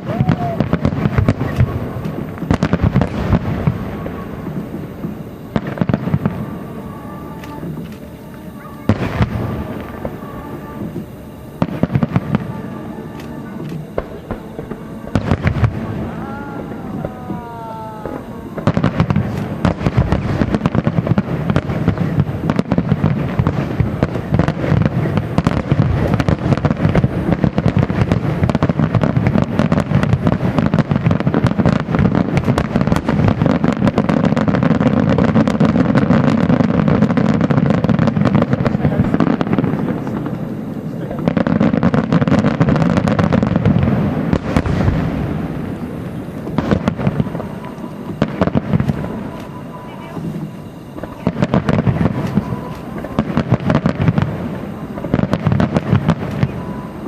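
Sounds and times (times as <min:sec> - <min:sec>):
fireworks bursting with crackling: 0:00.0 - 0:57.0.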